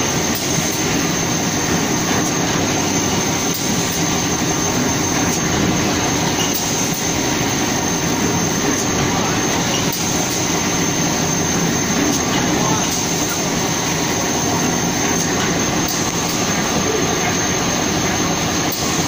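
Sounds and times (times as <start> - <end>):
high machine whine: 0.0 - 19.0.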